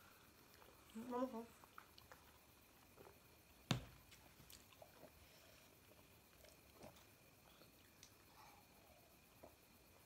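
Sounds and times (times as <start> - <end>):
faint chewing: 0.1 - 3.4, 4.1 - 9.7.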